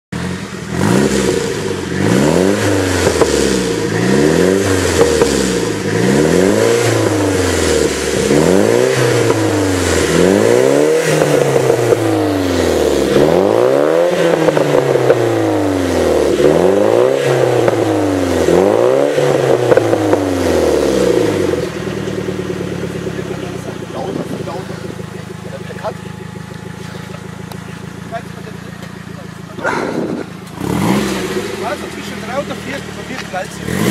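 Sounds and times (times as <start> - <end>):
car engine revving: 0.1 - 33.9.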